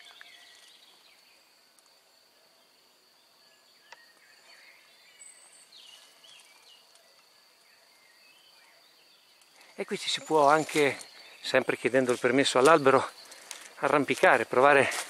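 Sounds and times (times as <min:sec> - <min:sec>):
faint bird chirps: 0:00.0 - 0:14.1.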